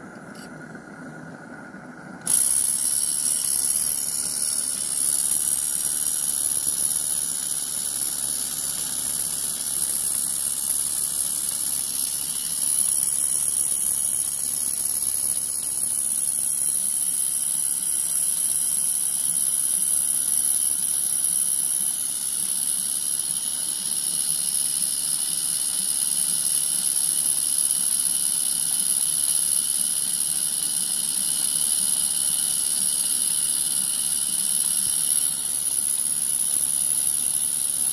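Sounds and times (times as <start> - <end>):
steam boiler hissing: 0.0 - 37.9.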